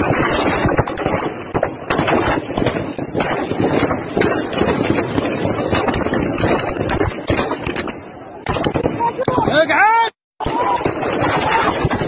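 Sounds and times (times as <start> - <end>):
gunfire cracks: 0.0 - 9.7, 10.4 - 12.0.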